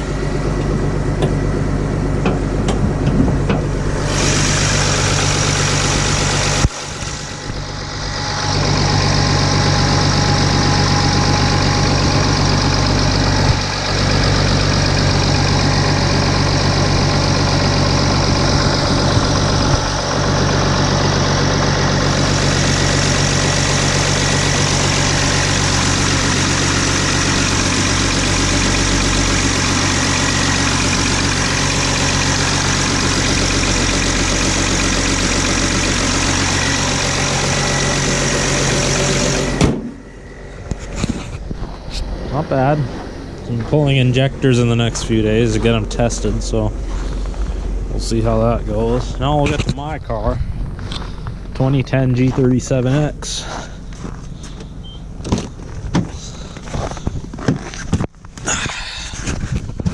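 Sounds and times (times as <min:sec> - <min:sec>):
diesel engine idling: 0:00.0 - 0:59.5.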